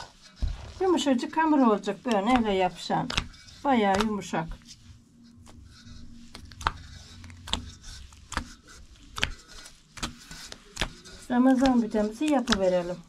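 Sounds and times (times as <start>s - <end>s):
dough slapping: 0.0s - 4.8s, 5.7s - 13.0s
hands kneading sticky dough: 0.0s - 13.0s.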